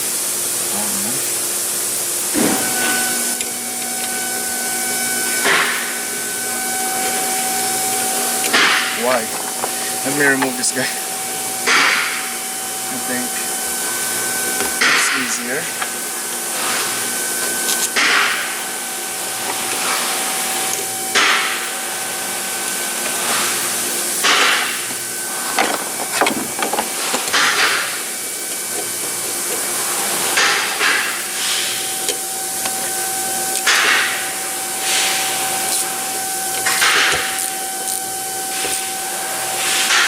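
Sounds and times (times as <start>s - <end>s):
steady hiss and hum: 0.0s - 40.0s.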